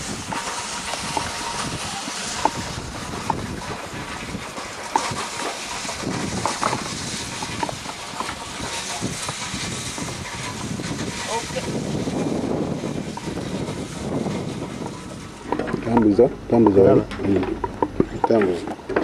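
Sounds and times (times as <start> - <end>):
wind rushing on microphone: 0.0 - 18.9.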